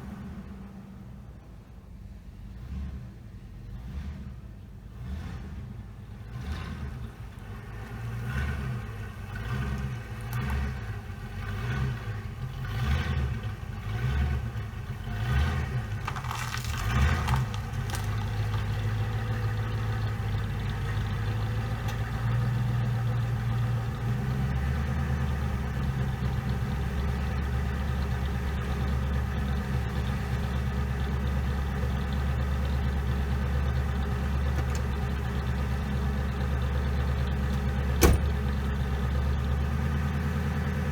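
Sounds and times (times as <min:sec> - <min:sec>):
car engine revving and idling: 0:00.0 - 0:40.9.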